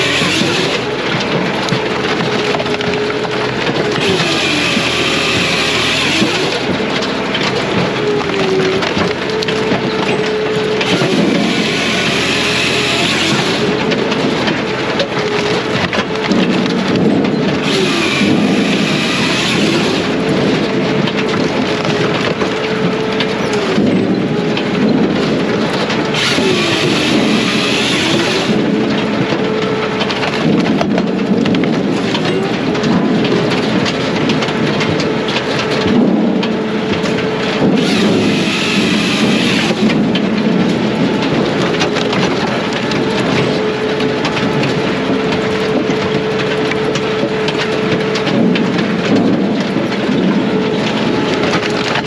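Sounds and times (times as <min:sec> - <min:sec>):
firewood processor running: 0:00.0 - 0:52.0
wood clattering: 0:00.0 - 0:52.0
wood cracking and splintering: 0:00.0 - 0:52.0.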